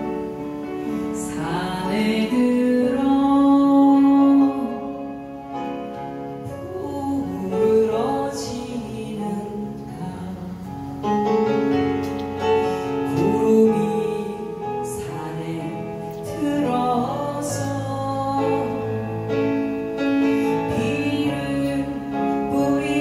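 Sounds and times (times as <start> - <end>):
electric keyboard chords: 0.0 - 23.0
woman singing into microphone: 0.8 - 5.8, 6.4 - 11.3, 12.7 - 23.0.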